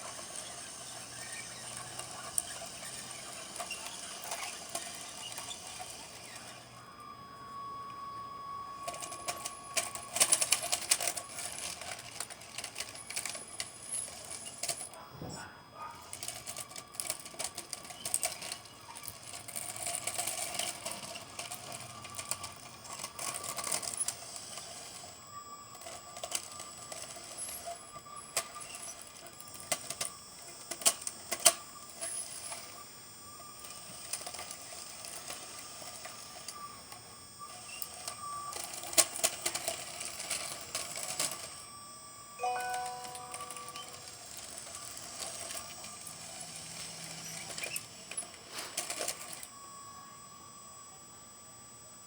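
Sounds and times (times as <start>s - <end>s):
small hydraulic pump whining: 0.0s - 52.0s.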